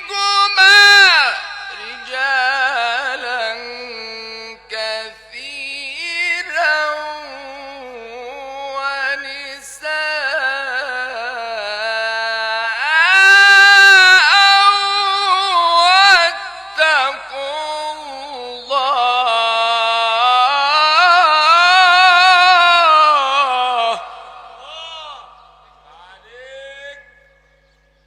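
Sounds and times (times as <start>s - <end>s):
man chanting melodic recitation: 0.0s - 28.0s.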